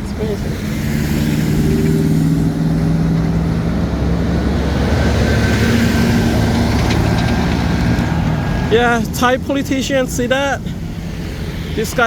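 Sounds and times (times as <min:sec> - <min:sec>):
road traffic noise: 0:00.0 - 0:12.0
vehicle engines running: 0:00.0 - 0:12.0.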